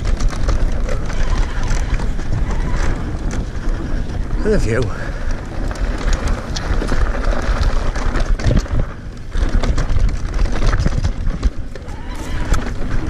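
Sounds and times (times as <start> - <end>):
bike clattering over bumps: 0.0 - 13.0
bike tyres crunching on dirt: 0.0 - 13.0
wind buffeting microphone: 0.0 - 13.0.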